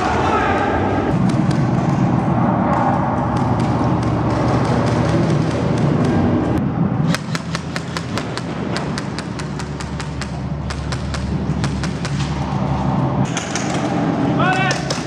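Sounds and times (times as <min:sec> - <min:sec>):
steady low rumble: 0:00.0 - 0:15.0
airsoft guns firing: 0:01.1 - 0:06.4, 0:07.1 - 0:12.6, 0:13.3 - 0:15.0.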